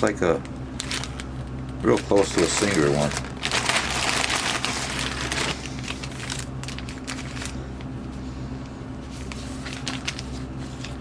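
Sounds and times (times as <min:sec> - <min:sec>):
low electrical hum: 0:00.0 - 0:11.0
paper and plastic packets crinkling: 0:00.8 - 0:07.9, 0:09.1 - 0:11.0.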